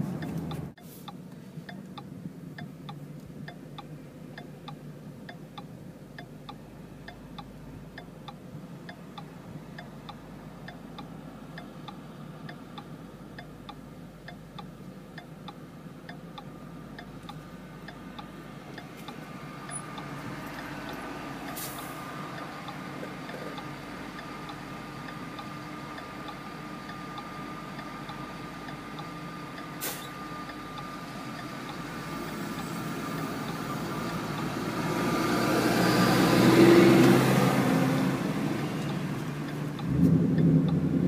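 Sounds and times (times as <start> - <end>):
car engine idling: 0.0 - 35.1
turn signal clicking: 0.0 - 36.4, 38.7 - 40.9.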